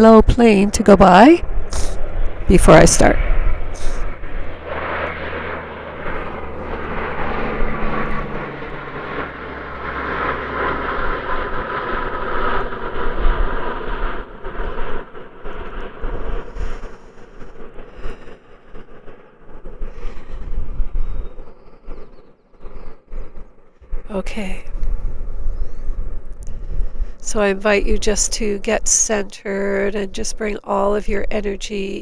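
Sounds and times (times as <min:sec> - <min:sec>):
airplane engine passing overhead: 0:00.0 - 0:32.0.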